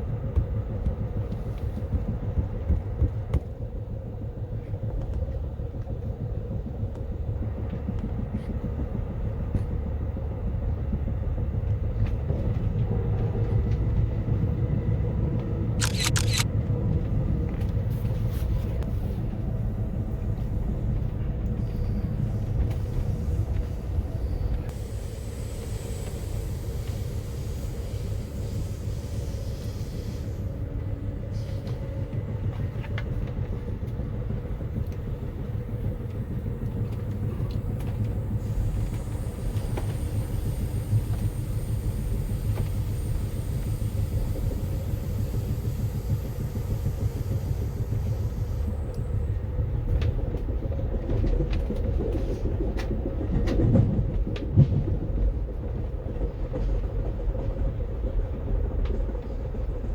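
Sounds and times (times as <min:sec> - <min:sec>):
train rumbling along track: 0:00.0 - 0:59.9.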